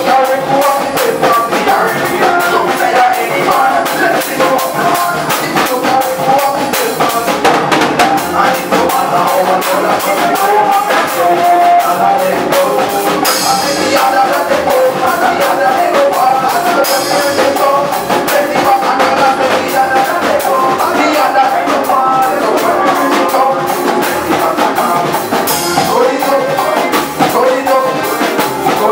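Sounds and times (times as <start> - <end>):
band playing dance music: 0.0 - 28.9
driving drum kit beat: 0.0 - 28.9.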